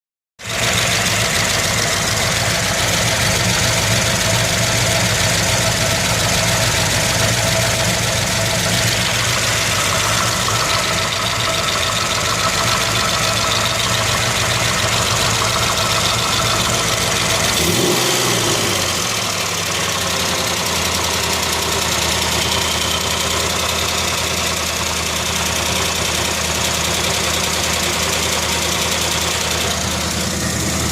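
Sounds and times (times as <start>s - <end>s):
fast ticking from engine: 0.4s - 18.3s, 19.2s - 30.9s
engine idling: 0.4s - 30.9s.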